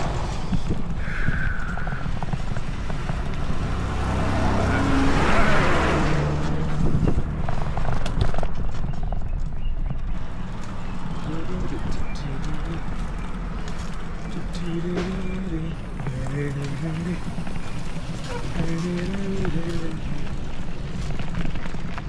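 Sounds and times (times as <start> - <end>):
motor vehicle passing: 0.0 - 22.0
wind rumbling on microphone: 0.0 - 22.0.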